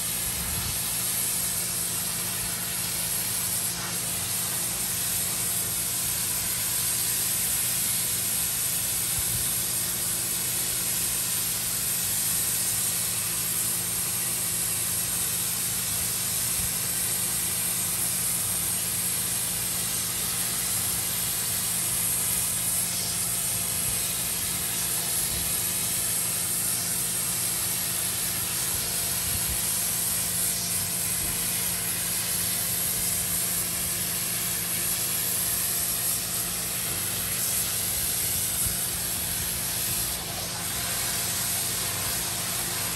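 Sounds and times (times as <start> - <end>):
pressure washer spraying water: 0.0 - 42.9.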